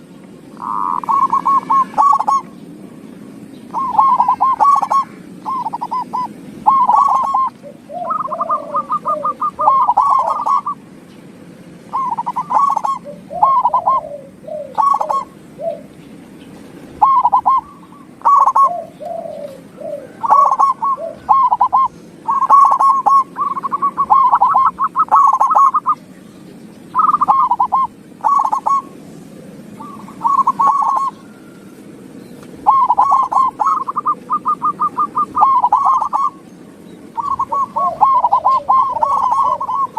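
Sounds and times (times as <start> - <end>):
dove cooing: 0.0 - 26.2, 26.9 - 39.9.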